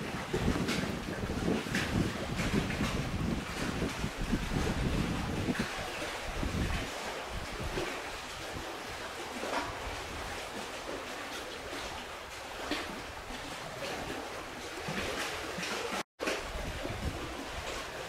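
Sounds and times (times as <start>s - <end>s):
wind and waves rushing: 0.0s - 18.0s.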